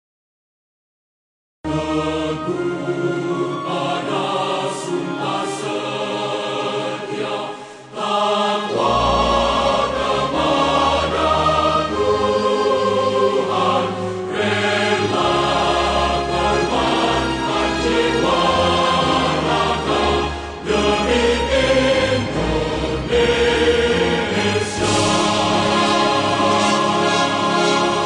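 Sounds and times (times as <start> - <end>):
choir singing sustained notes: 1.7 - 28.0.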